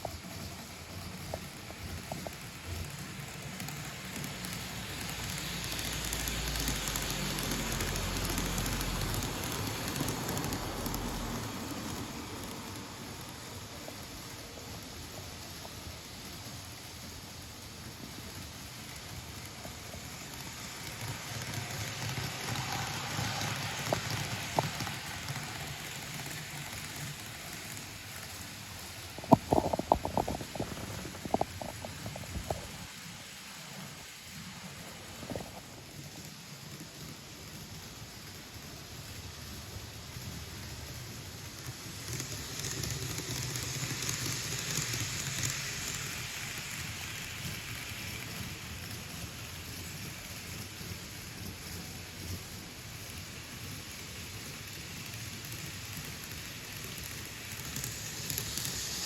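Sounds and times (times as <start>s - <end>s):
model train running: 0.0s - 59.0s.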